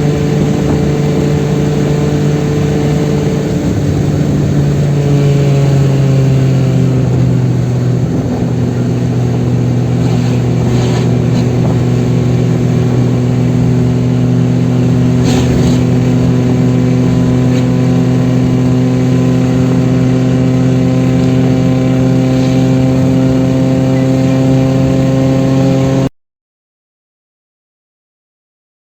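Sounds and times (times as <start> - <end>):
car engine running hard: 0.0 - 26.1.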